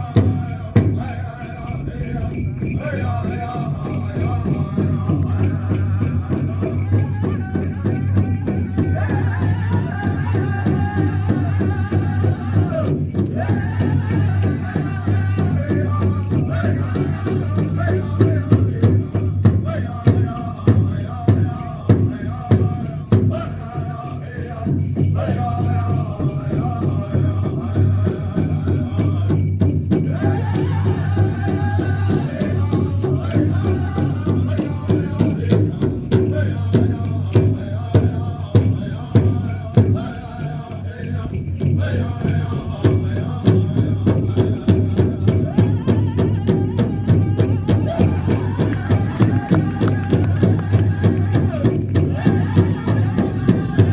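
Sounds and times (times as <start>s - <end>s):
group singing: 0.0s - 53.9s
steady drumbeat: 0.0s - 53.9s.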